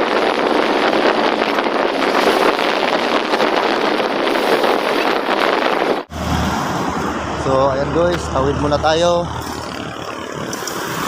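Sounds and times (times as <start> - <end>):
loud rushing noise: 0.0 - 11.0.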